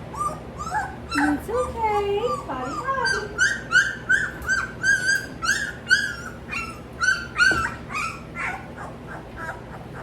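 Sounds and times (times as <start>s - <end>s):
puppies yelping and whimpering: 0.0s - 10.0s.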